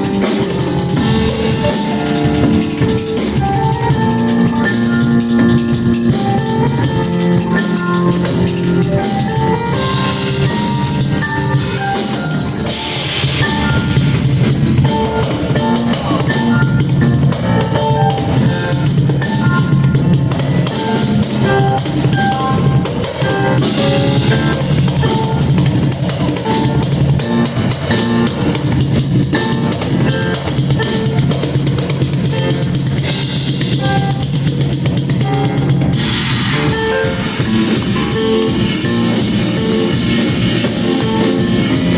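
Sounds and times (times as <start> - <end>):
bass line: 0.0 - 41.9
drum kit beat: 0.0 - 41.9
rock band playing live: 0.0 - 41.9.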